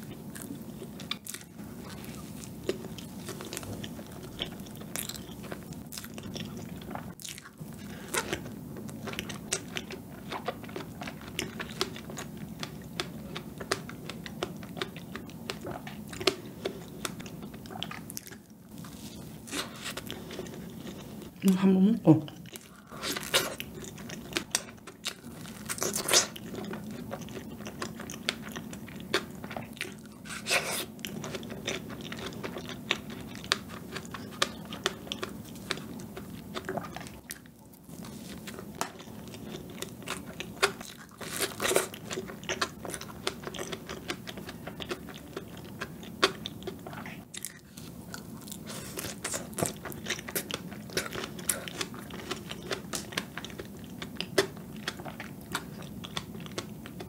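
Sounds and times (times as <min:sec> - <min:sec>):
wet chewing and crunching: 0:00.0 - 0:21.4, 0:22.3 - 0:57.0.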